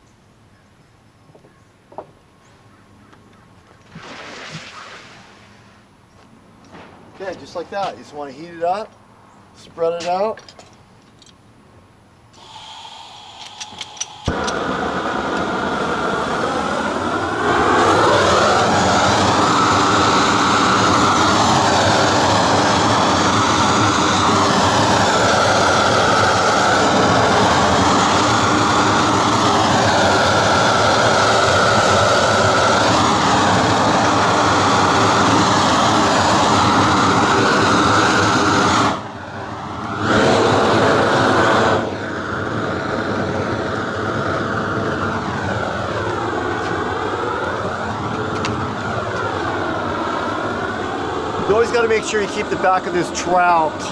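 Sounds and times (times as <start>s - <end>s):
propane torch flame burning: 6.6s - 8.8s, 12.3s - 53.9s.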